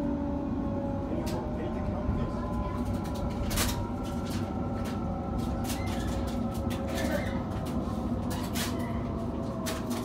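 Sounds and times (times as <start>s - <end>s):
train interior rumble: 0.0s - 10.0s.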